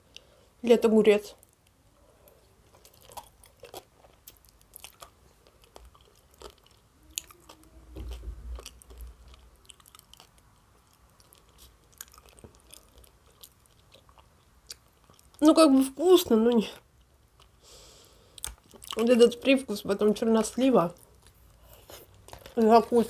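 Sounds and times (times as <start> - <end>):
chewing with mouth clicks: 1.4 - 15.4, 16.5 - 17.6, 18.3 - 19.2, 20.3 - 22.7.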